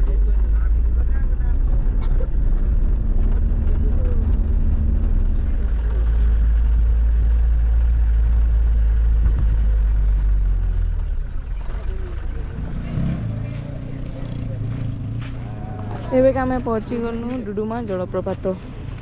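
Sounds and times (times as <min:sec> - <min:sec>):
road vehicle rumble: 0:00.0 - 0:19.0.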